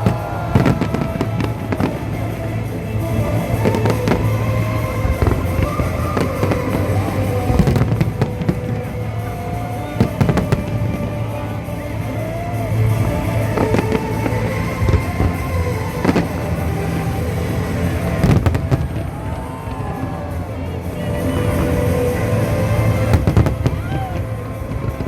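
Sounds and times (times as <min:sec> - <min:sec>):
fireworks bangs and cracks: 0:00.0 - 0:25.0
music playing: 0:00.0 - 0:25.0.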